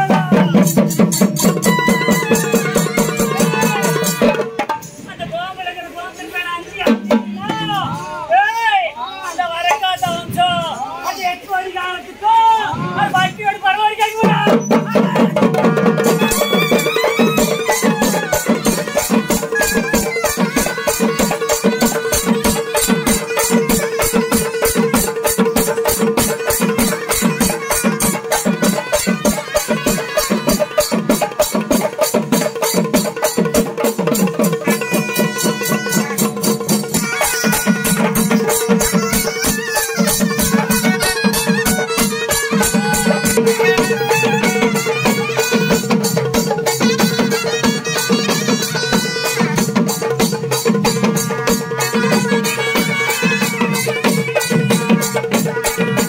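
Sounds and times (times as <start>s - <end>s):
drums beating fast rhythm: 0.0s - 11.4s, 12.6s - 56.0s.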